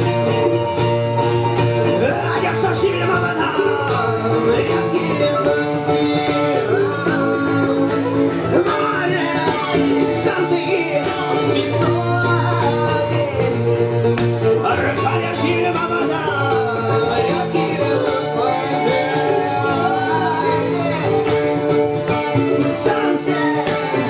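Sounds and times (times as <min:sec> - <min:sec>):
live band playing: 0:00.0 - 0:24.0
person singing: 0:00.0 - 0:24.0
plucked guitar: 0:00.0 - 0:24.0.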